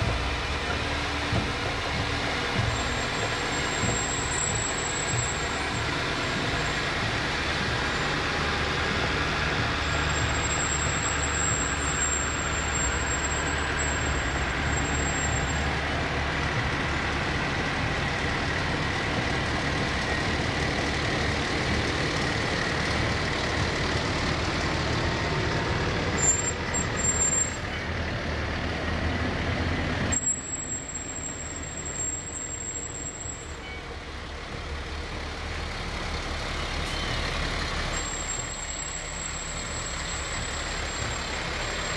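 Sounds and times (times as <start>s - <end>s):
fire truck diesel engines: 0.0s - 41.9s.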